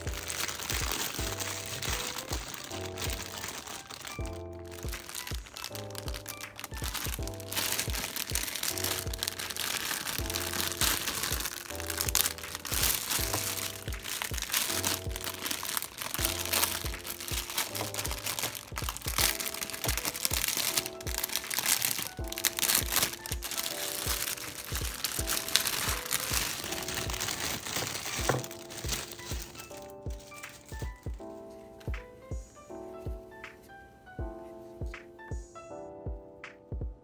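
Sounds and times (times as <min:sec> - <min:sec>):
plastic wrap crinkling: 0:00.0 - 0:31.8
lo-fi hip hop music: 0:00.0 - 0:37.0.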